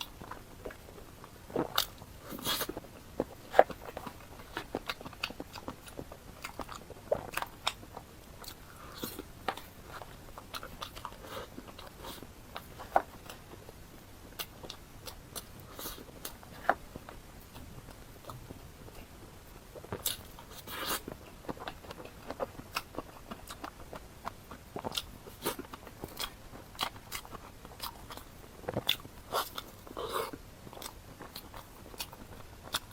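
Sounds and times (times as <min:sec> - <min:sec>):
wet chewing with crunches: 0:00.0 - 0:32.9.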